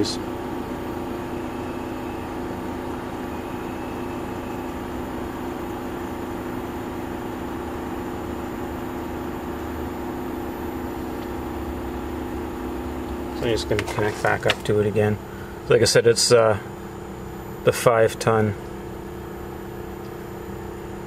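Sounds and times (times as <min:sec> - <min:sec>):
heat pump unit humming: 0:00.0 - 0:21.0.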